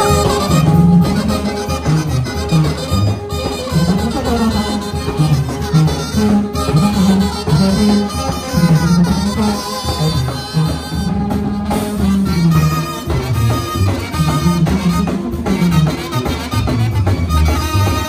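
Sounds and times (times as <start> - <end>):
brass band playing dance music: 0.0 - 18.0.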